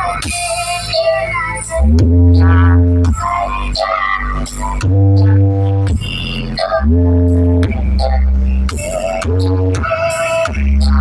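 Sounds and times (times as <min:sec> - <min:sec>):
deep bass notes: 0:01.7 - 0:11.0.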